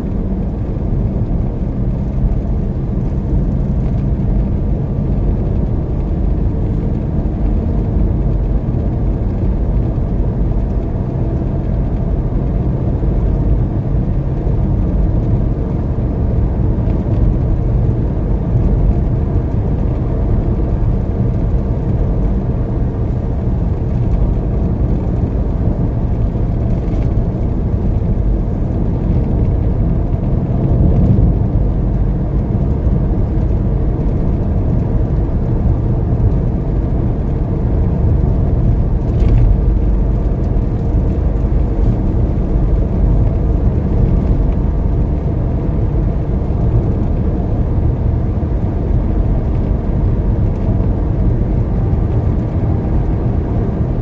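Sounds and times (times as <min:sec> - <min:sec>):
car tyres and engine rumble: 0:00.0 - 0:54.0.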